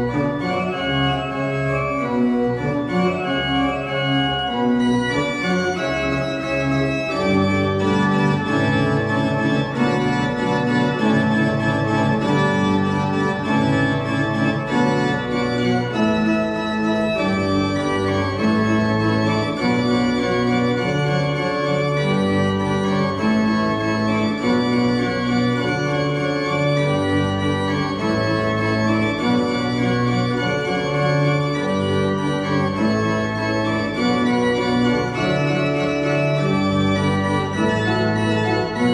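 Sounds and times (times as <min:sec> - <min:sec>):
pipe organ playing chords: 0:00.0 - 0:38.9.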